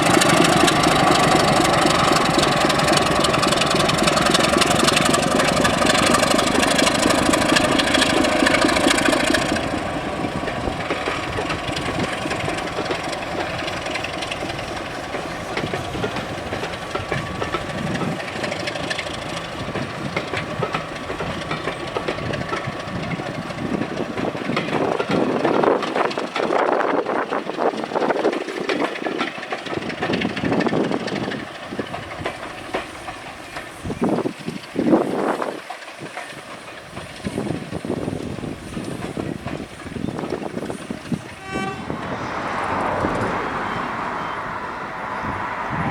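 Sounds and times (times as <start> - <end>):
train running: 0.0 - 45.9
wheels clicking over rail joints: 0.0 - 45.9.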